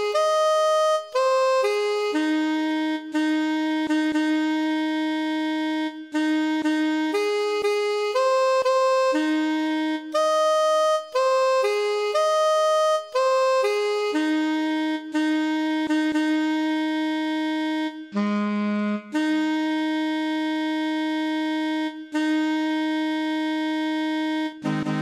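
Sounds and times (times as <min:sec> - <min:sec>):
wind instrument melody: 0:00.0 - 0:25.0.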